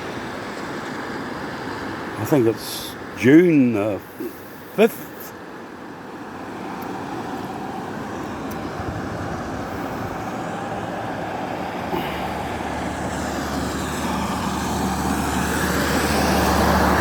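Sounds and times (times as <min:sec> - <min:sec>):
river rushing: 0:00.0 - 0:17.0
road traffic on a bridge: 0:00.0 - 0:17.0.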